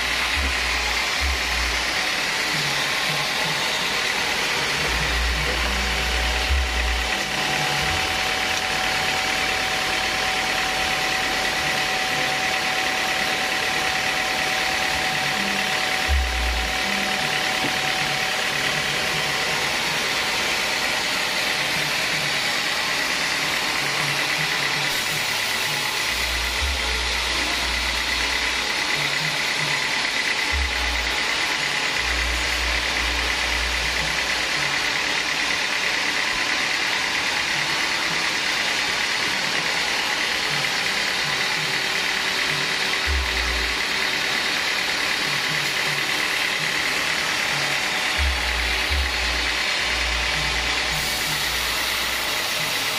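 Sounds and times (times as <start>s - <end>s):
band saw blade whining: 0.0s - 52.9s
sawmill machine drone: 0.0s - 52.9s.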